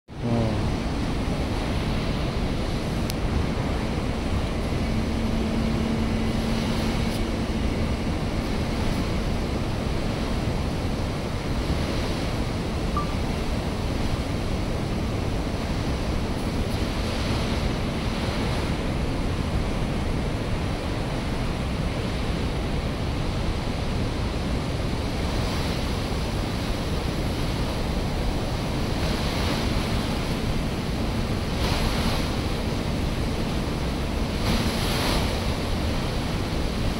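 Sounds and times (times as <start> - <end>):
water rushing through spillway: 0.1 - 36.9.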